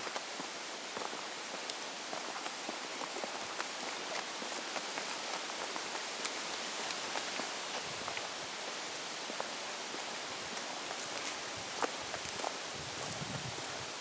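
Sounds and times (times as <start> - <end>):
leaves rustling in the wind: 0.0 - 14.0.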